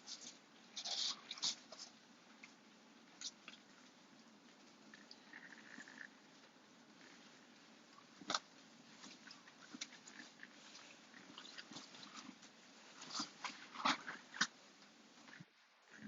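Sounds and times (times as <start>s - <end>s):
small rustling ticks: 0.0s - 16.0s.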